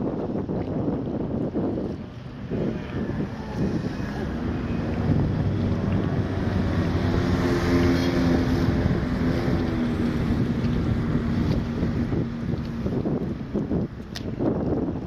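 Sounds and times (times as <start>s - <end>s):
boat engine hum: 0.0s - 15.0s
wind buffeting microphone: 0.0s - 15.0s.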